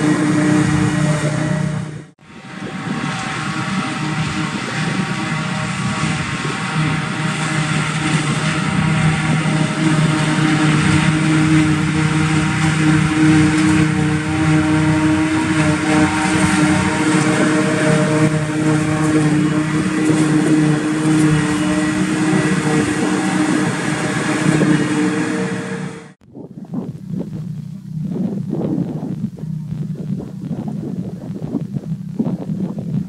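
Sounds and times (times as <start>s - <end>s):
forage harvester engine and chopper drone: 0.0s - 33.0s.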